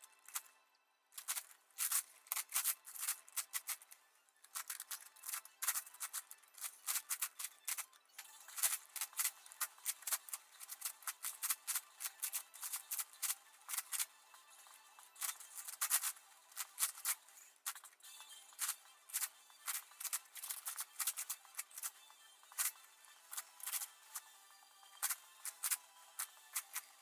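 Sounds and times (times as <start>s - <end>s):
plastic puzzle cube clicking: 1.2s - 3.9s, 4.5s - 7.9s, 8.5s - 14.1s, 15.1s - 18.0s, 18.6s - 24.3s, 24.9s - 27.0s.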